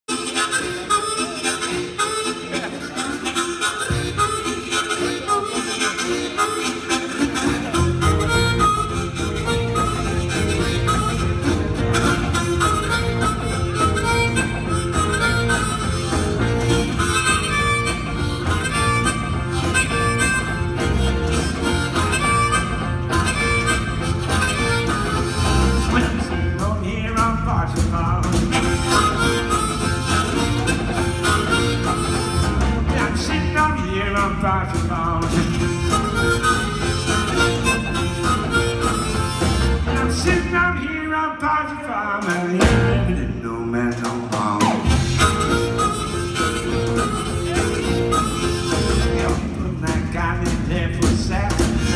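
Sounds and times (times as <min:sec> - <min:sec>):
harmonica: 0:00.0 - 0:41.2, 0:41.8 - 0:43.5, 0:44.4 - 0:51.9
blues band playing: 0:00.0 - 0:51.9.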